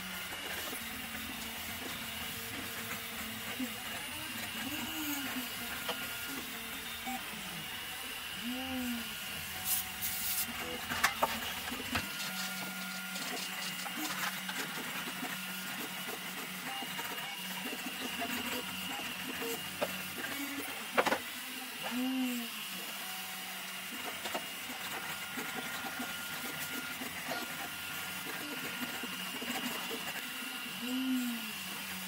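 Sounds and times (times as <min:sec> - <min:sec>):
printer stepper motors humming: 0:00.0 - 0:32.0.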